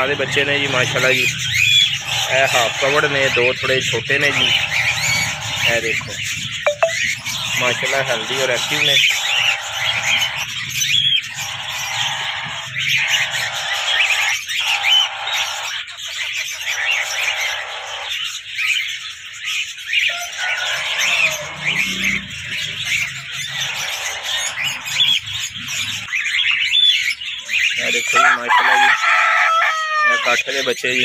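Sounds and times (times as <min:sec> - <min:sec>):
parakeet chicks squawking: 0:00.0 - 0:31.0.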